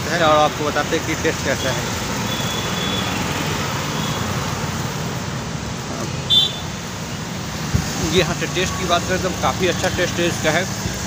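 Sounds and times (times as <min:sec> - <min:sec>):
roadside traffic: 0:00.0 - 0:11.0.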